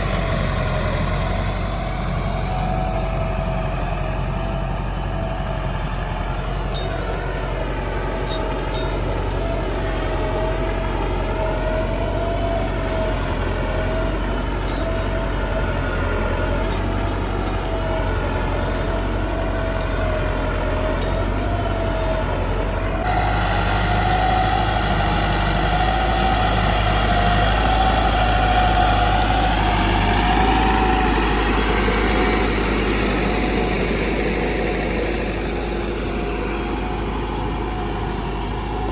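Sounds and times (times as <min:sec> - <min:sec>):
louder engine sound: 0:00.0 - 0:38.9
tractor engine running: 0:00.0 - 0:38.9.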